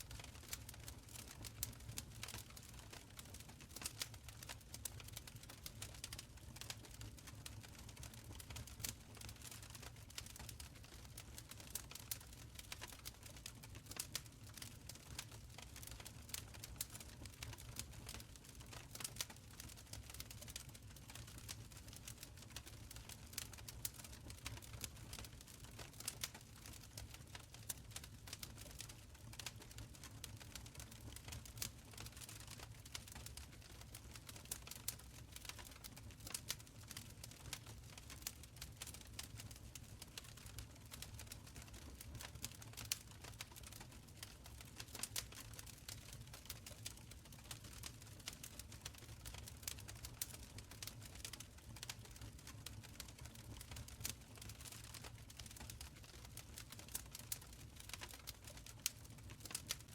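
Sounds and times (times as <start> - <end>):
wood fire crackling and popping: 0.1 - 59.9.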